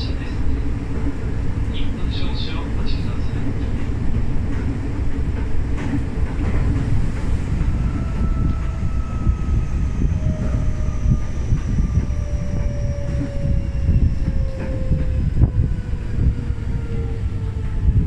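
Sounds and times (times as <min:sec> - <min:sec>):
subway train running rumble: 0:00.0 - 0:18.0.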